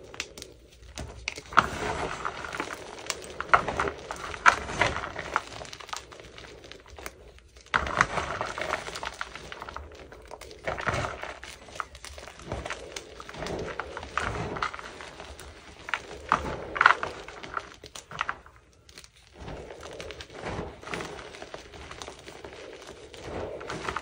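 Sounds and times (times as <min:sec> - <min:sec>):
hands crunching chalk lumps: 0:00.0 - 0:24.0.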